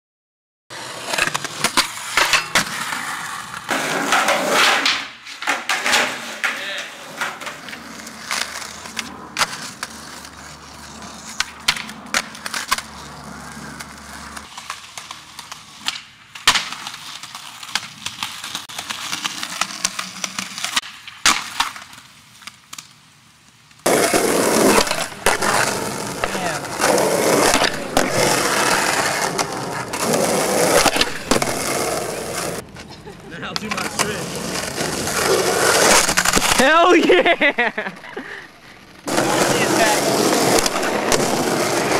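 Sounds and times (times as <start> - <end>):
skateboards rolling on concrete: 0.7 - 41.9
skateboard clacks: 0.9 - 22.9, 23.8 - 32.9, 33.5 - 36.7, 39.0 - 41.9.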